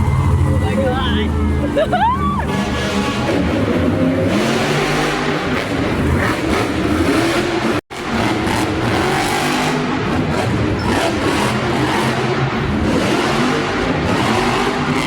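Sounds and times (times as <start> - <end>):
monster truck engines revving: 0.0 - 15.0.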